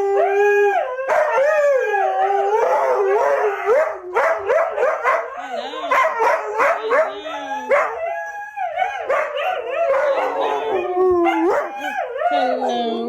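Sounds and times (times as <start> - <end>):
dog howling: 0.0 - 13.0.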